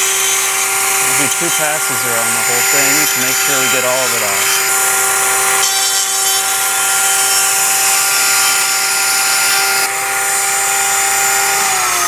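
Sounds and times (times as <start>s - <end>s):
router cutting edge banding: 0.0s - 12.0s
router motor whine: 0.0s - 12.0s.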